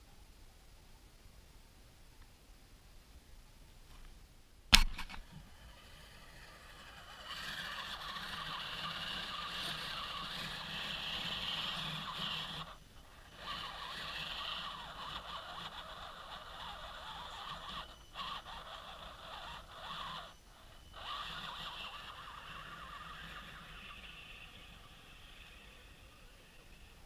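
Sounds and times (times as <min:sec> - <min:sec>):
electric motor and gears whining: 0:04.8 - 0:27.0.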